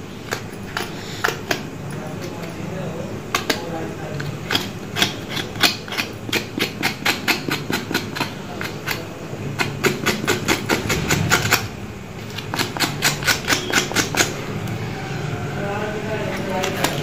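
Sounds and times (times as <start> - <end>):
knife scraping skin: 0.2 - 2.6, 3.3 - 14.4, 16.2 - 17.0.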